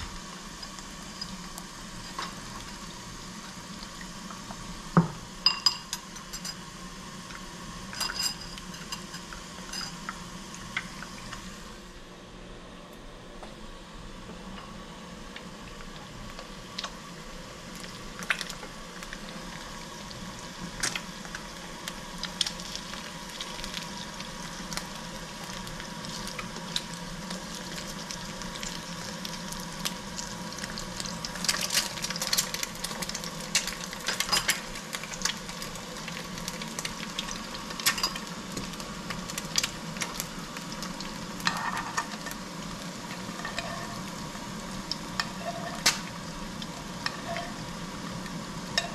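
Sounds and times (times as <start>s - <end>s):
oil sizzling in a frying pan: 0.0s - 11.9s, 14.2s - 48.9s.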